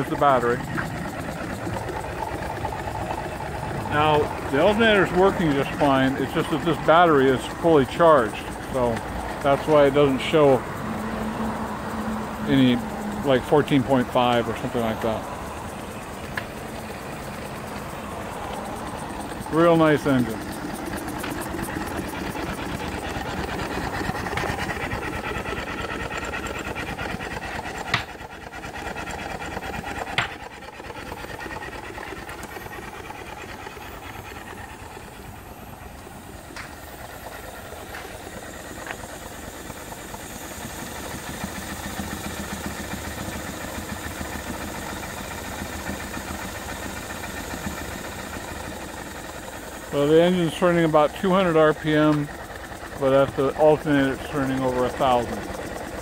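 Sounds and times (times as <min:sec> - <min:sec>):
steam engine running: 0:00.0 - 0:56.0
steam hissing: 0:00.0 - 0:56.0.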